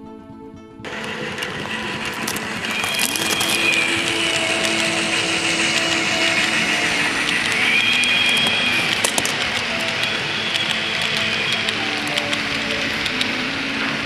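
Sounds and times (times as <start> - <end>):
background music: 0.0 - 14.0
model train whirring on track: 0.9 - 14.0.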